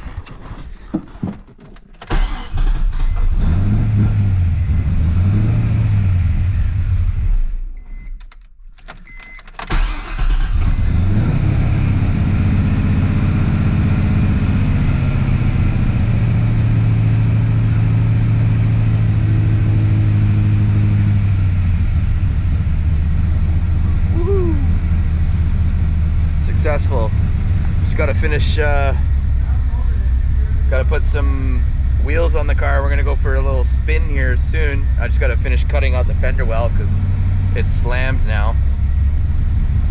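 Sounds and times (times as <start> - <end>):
car engine starting and idling: 0.0 - 39.9.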